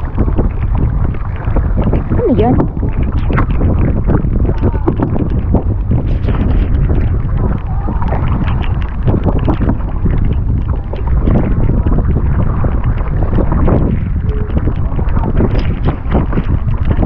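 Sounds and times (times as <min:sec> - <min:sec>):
water splashing from paddle: 0:00.0 - 0:17.0
wind buffeting microphone: 0:00.0 - 0:17.0.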